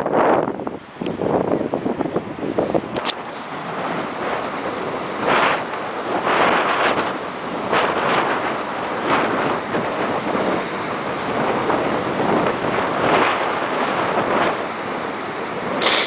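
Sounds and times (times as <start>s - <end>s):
surf rushing: 0.0s - 16.0s
wind buffeting microphone: 0.0s - 16.0s.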